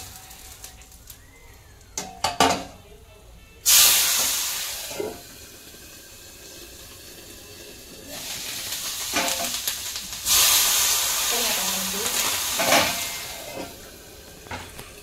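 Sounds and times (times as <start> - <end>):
oil sizzling in a pan: 0.0 - 2.5, 3.6 - 15.0.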